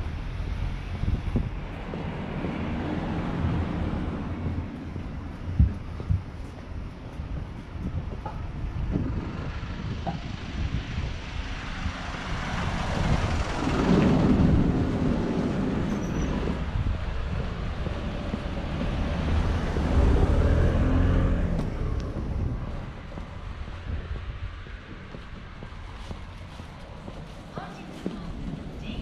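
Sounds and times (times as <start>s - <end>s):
vehicles passing close by: 0.0s - 29.0s.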